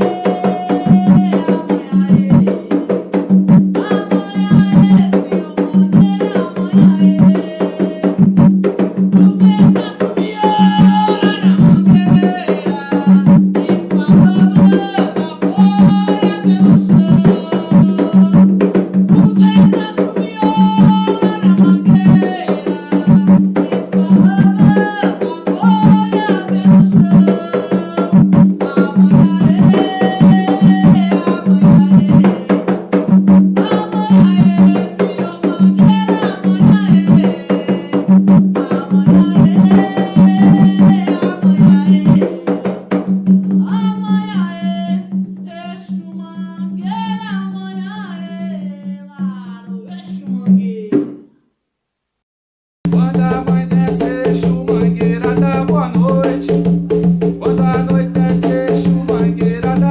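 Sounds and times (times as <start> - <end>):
person singing a chant: 0.0 - 3.1, 3.8 - 8.2, 9.2 - 18.5, 19.1 - 32.7, 33.6 - 42.8, 43.6 - 51.0, 52.9 - 56.6, 57.4 - 59.9
hand drums beating: 0.0 - 48.6, 52.8 - 59.9.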